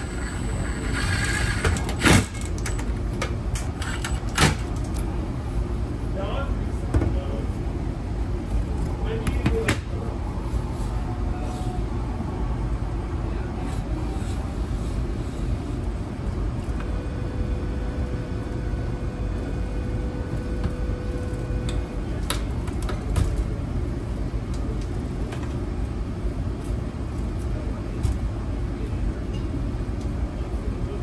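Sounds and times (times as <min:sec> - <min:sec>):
air rumbling through duct: 0:00.0 - 0:31.0.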